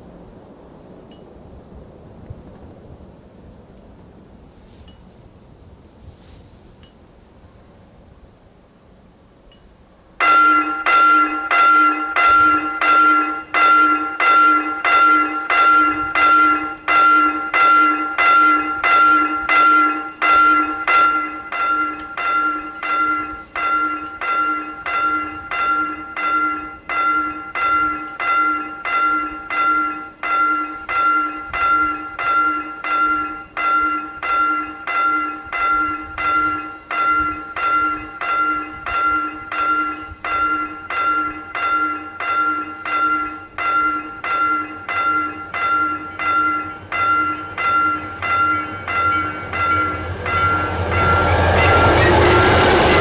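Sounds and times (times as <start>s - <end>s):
level crossing warning bell: 9.5s - 53.0s.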